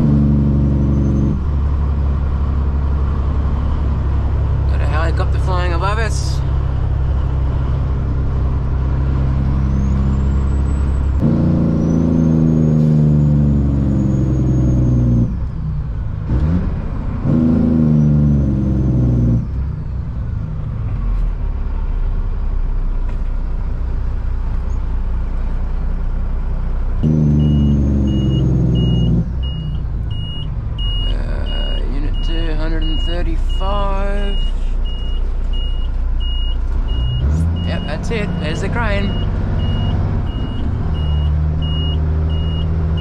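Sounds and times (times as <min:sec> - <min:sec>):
diesel truck engine pulling: 0:00.0 - 0:43.0.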